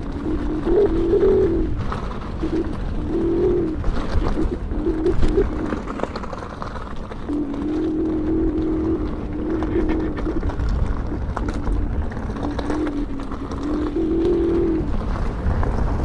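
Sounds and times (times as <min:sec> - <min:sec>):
trail rumble: 0:00.0 - 0:16.0
wind: 0:00.0 - 0:16.0.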